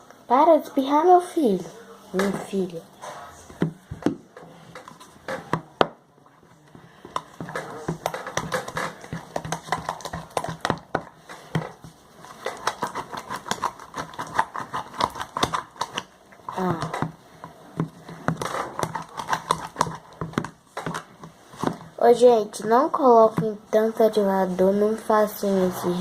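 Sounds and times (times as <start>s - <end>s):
spatula stirring sticky slime: 0.3s - 26.0s.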